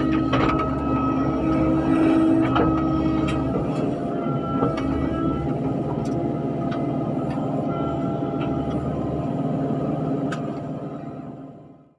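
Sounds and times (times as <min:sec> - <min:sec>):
excavator engine and hydraulics: 0:00.0 - 0:11.9.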